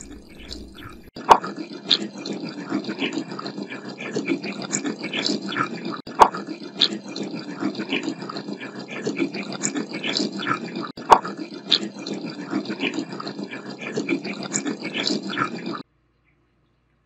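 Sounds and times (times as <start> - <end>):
warbling processed water stream: 0.0 - 15.8.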